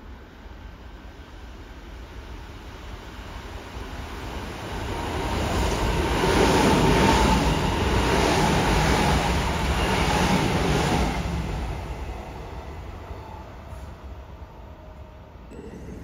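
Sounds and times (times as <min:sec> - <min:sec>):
electric train passing: 0:00.4 - 0:16.0.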